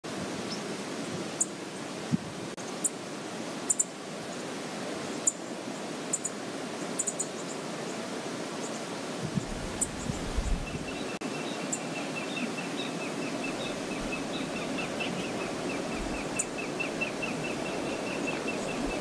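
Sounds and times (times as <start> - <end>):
river water rushing: 0.1 - 19.0.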